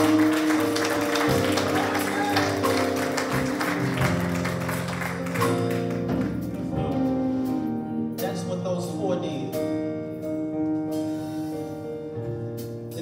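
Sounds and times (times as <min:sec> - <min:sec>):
keyboard chords: 0:00.0 - 0:13.0.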